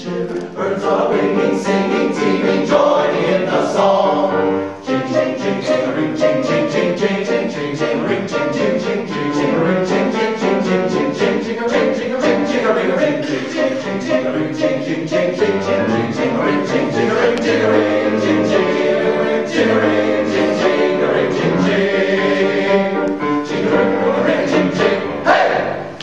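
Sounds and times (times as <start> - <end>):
men's chorus singing: 0.0 - 25.9.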